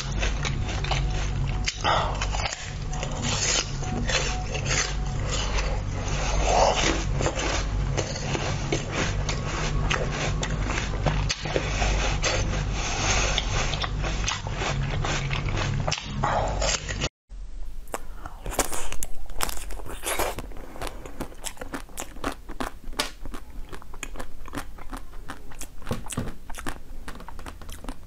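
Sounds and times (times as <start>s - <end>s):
mouth eating frozen fruit: 0.0s - 17.1s, 17.7s - 28.0s
steady low hum: 0.0s - 28.0s.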